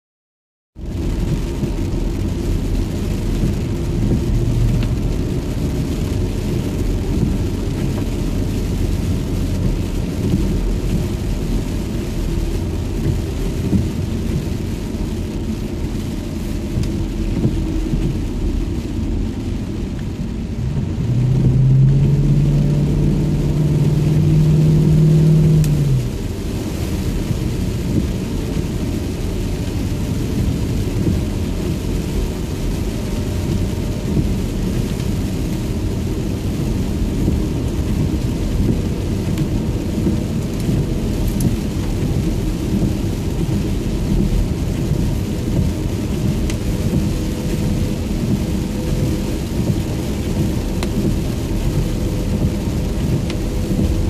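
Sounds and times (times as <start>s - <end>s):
low engine hum: 0.8s - 54.0s
rain on car: 0.8s - 54.0s
tyres and engine rumble: 0.8s - 54.0s.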